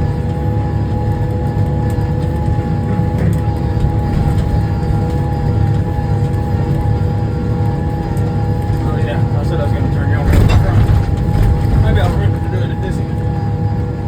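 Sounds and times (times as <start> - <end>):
steady whine: 0.0 - 14.0
tractor engine running under load: 0.0 - 14.0.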